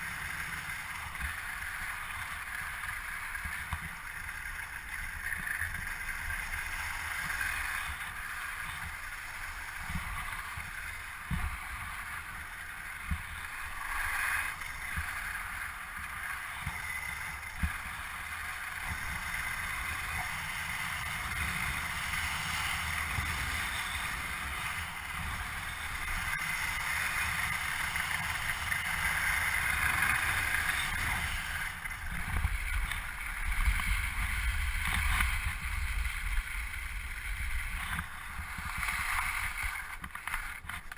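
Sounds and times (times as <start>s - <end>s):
skis scraping on snow: 0.0s - 40.9s
wind rumbling on microphone: 0.0s - 40.9s.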